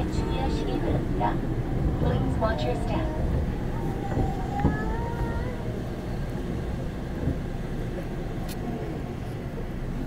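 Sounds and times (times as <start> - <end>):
subway train rumble: 0.0 - 10.0.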